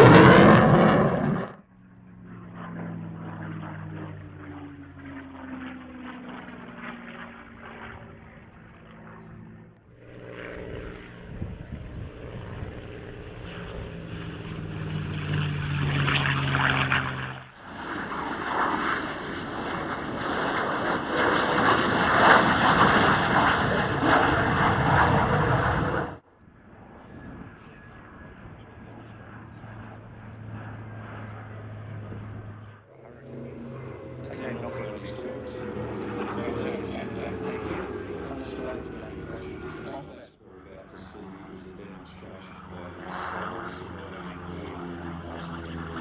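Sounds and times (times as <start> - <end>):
piston aircraft engine low pass: 0.0 - 46.0
propeller aircraft on approach: 0.0 - 46.0
rushing aircraft pass: 0.0 - 46.0.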